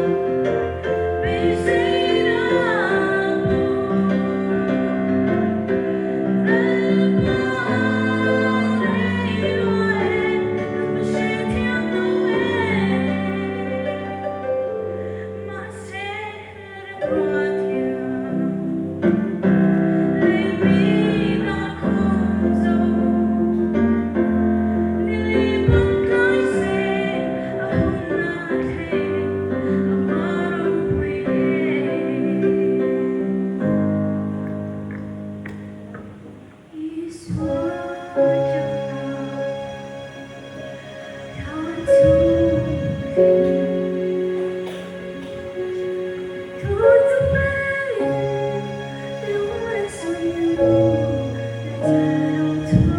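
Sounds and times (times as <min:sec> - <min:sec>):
keyboard chords: 0:00.0 - 0:52.9
woman singing: 0:01.2 - 0:14.5, 0:15.2 - 0:33.8, 0:36.7 - 0:39.7, 0:41.3 - 0:43.7, 0:46.5 - 0:52.9.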